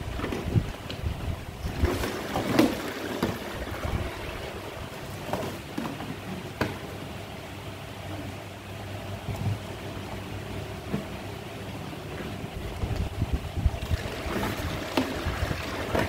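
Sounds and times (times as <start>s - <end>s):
liquid rushing: 0.0s - 8.9s, 11.5s - 16.0s.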